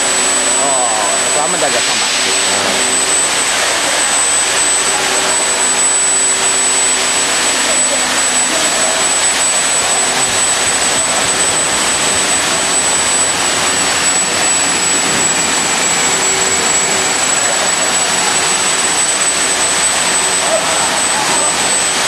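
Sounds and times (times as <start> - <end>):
vacuum pump hissing and whining: 0.0 - 22.0.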